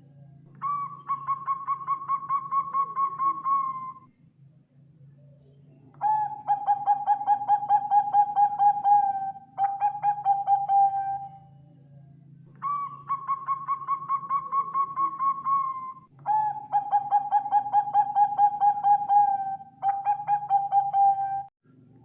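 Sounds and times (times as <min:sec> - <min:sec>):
low steady hum: 0:00.0 - 0:22.0
dove cooing: 0:00.6 - 0:04.0, 0:06.0 - 0:11.5, 0:12.6 - 0:21.5.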